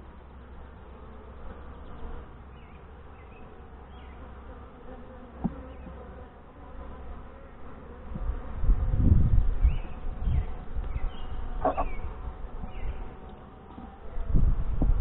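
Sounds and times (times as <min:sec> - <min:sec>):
bees buzzing: 0:00.0 - 0:14.9.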